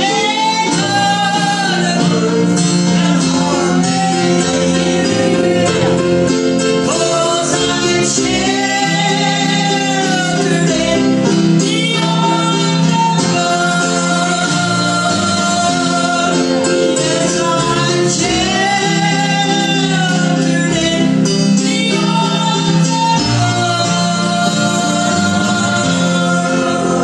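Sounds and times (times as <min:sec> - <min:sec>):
instrumental accompaniment: 0:00.0 - 0:27.0
woman singing gospel song: 0:00.0 - 0:27.0.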